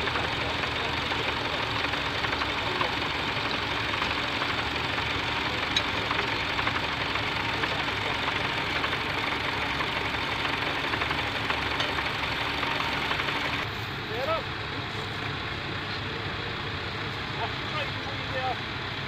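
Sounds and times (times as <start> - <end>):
tractor engine running under load: 0.0 - 19.0.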